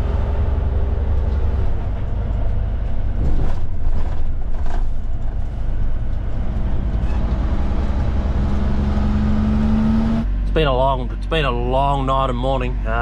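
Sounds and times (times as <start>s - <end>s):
road noise: 0.0s - 13.0s
truck diesel engine running: 0.0s - 13.0s.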